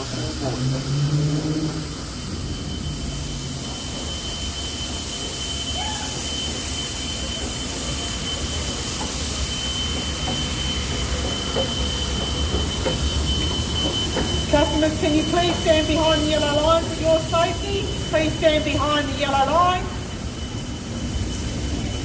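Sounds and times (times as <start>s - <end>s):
steam hissing: 0.0s - 22.0s
thin steady high tone: 2.1s - 22.0s.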